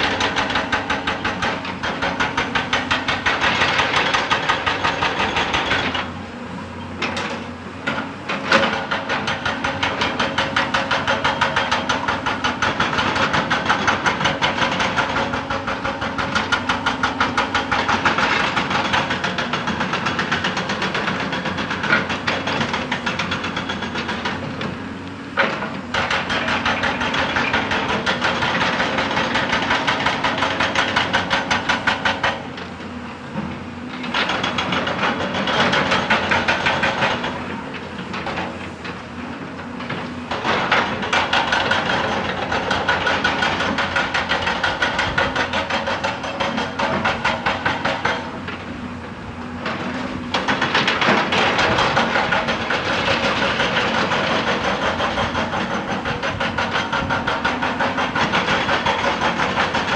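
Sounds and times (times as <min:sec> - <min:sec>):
hydraulic breaker hammering rock: 0:00.0 - 0:06.1, 0:07.0 - 0:59.9
excavator engine running: 0:00.0 - 0:59.9.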